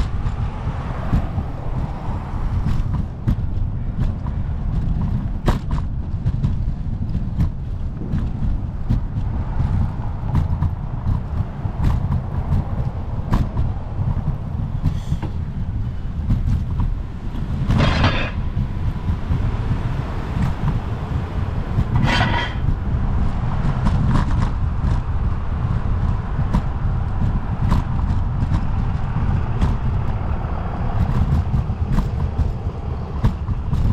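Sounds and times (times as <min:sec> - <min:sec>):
passing road traffic: 0:00.0 - 0:33.9
wind buffeting microphone: 0:00.0 - 0:33.9.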